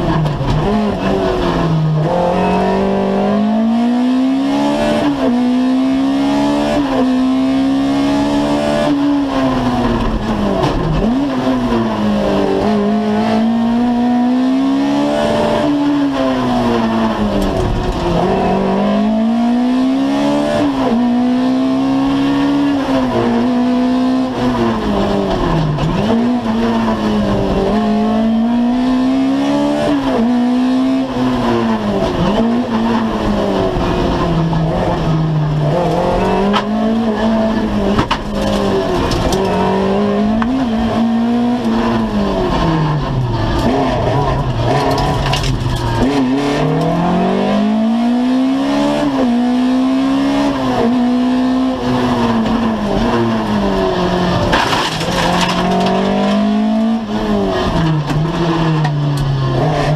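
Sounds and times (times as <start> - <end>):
rally car engine revving: 0.0 - 59.9
road and drivetrain noise: 0.0 - 59.9.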